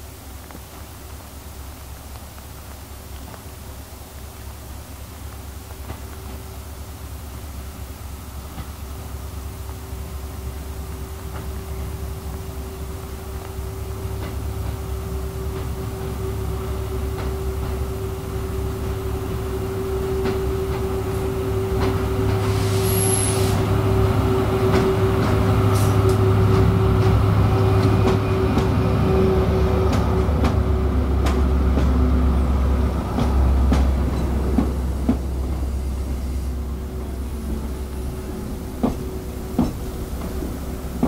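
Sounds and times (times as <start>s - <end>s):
train coaches rolling by: 2.8s - 41.0s
diesel locomotives passing: 5.8s - 41.0s.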